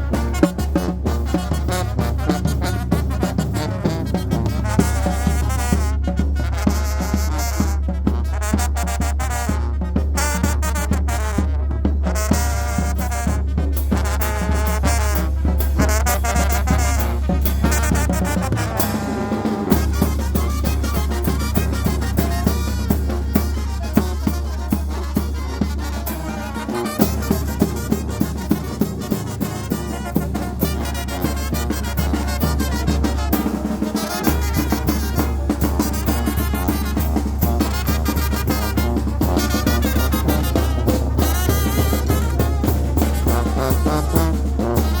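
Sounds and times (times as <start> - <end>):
brass band playing dance tune: 0.0 - 45.0
steady drum beat: 0.0 - 45.0.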